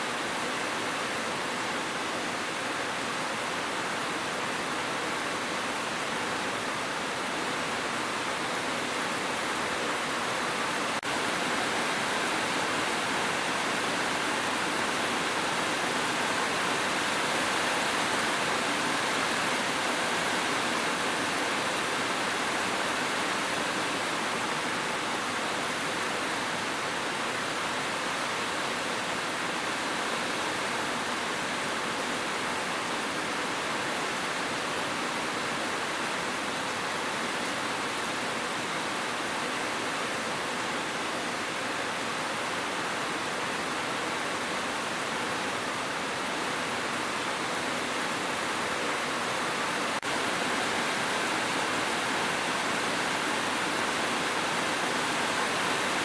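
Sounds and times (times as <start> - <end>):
heavy rain hiss: 0.0 - 56.0.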